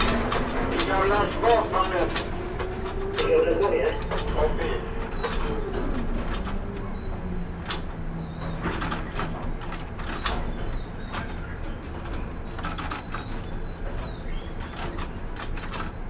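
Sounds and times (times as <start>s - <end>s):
crane machinery humming: 0.0s - 15.4s
sharp clicks and knocks: 0.0s - 16.0s.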